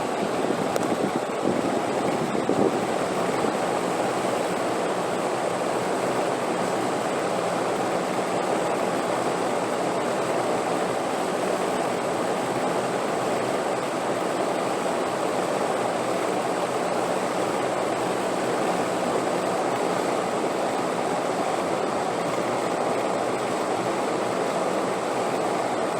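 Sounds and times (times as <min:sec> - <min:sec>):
steady wind: 0:00.0 - 0:25.9.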